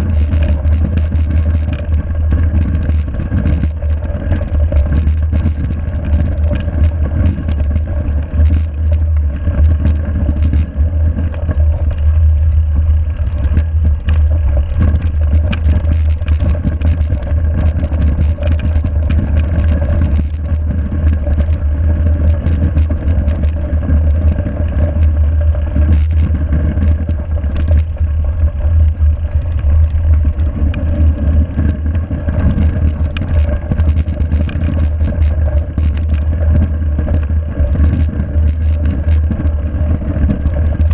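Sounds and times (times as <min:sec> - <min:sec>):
bike rattles and clicks: 0:00.0 - 0:40.9
wind and vibration rumble: 0:00.0 - 0:40.9.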